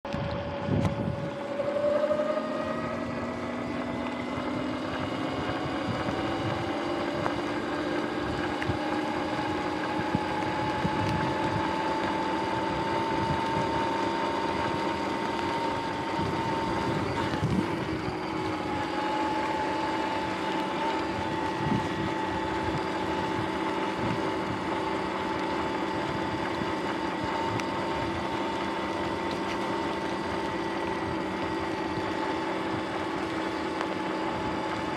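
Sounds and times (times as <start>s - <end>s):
electric motorbike motor whine: 0.0s - 34.9s
wind on microphone: 0.1s - 18.9s, 20.0s - 29.6s.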